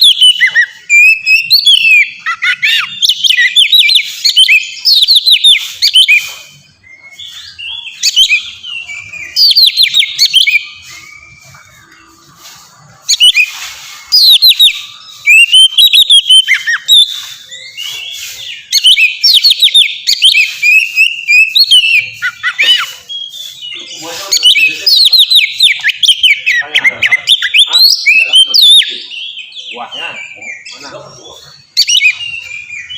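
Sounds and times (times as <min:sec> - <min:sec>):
magpie-robin singing: 0:00.0 - 0:32.9.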